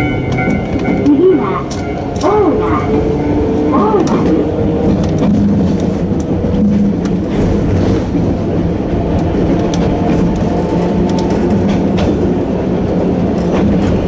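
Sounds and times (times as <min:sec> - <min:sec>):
train rumble: 0:00.0 - 0:14.0
wheels clicking on track: 0:00.0 - 0:14.0.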